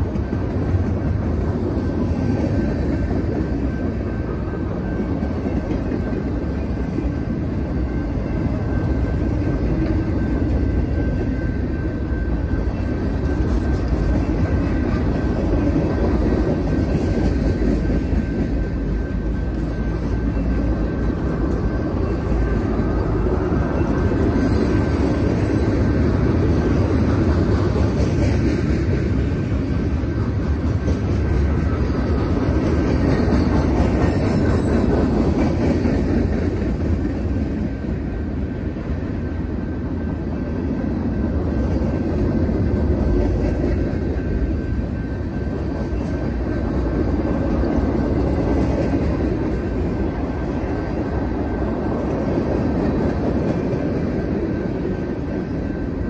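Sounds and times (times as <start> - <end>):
freight train rolling on rails: 0.0 - 56.0
faint steady ringing tone: 0.1 - 36.3, 37.2 - 56.0.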